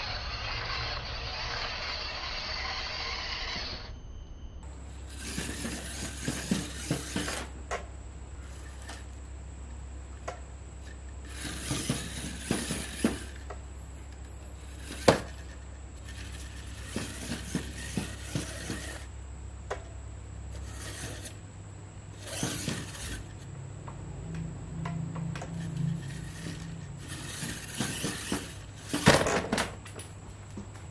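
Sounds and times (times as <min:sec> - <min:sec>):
toy truck motor whirring: 0:00.0 - 0:04.0, 0:04.6 - 0:23.7, 0:24.3 - 0:30.1.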